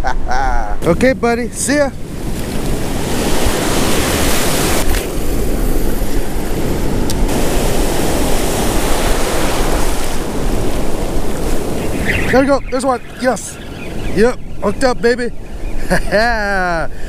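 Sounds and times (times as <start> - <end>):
ocean surf washing in shallows: 0.8 - 17.0.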